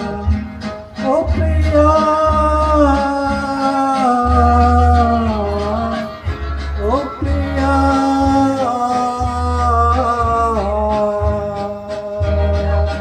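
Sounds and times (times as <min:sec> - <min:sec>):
person singing through loudspeaker: 0:00.0 - 0:13.0.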